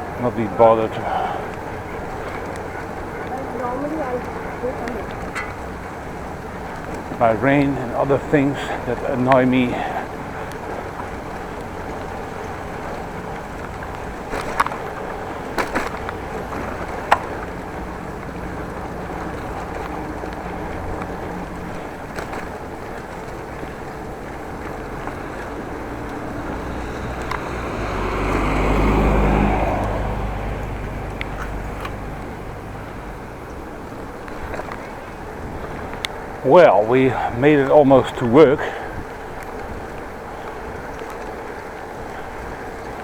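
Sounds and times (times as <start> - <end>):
motor vehicle passing: 0.0 - 43.0
road and wind noise: 0.0 - 43.0.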